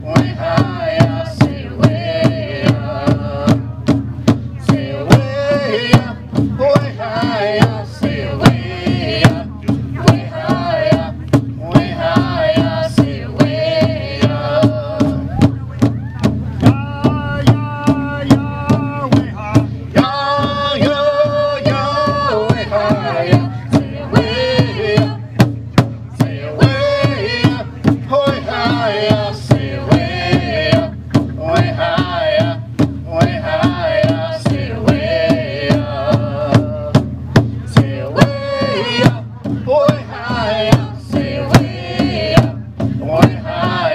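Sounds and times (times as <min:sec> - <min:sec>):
group chanting: 0:00.0 - 0:03.6, 0:04.6 - 0:15.3, 0:16.7 - 0:25.3, 0:26.1 - 0:37.0, 0:37.7 - 0:43.9
large hand drum beat: 0:00.0 - 0:43.9.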